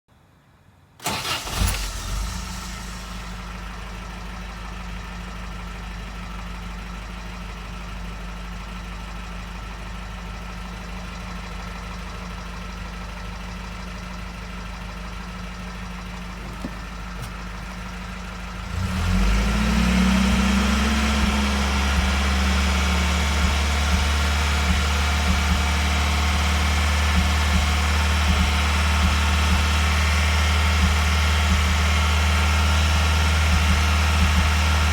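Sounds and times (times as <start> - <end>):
car engine idling and revving: 1.0 - 34.9.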